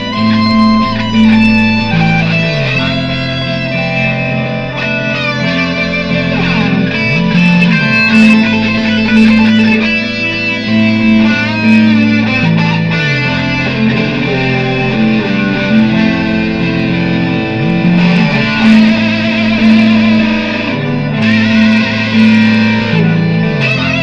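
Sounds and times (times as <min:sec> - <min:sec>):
electric guitar lead playing: 0:00.0 - 0:24.0
looped guitar layers: 0:00.0 - 0:24.0.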